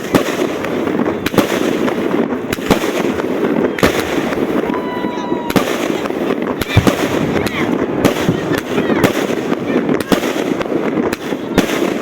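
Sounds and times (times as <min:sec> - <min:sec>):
continuous dense noise: 0:00.0 - 0:12.0
firework bangs: 0:00.0 - 0:12.0.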